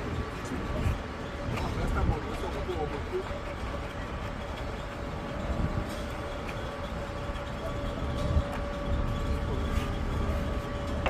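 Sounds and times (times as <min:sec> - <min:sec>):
concreting machinery running: 0:00.0 - 0:11.0.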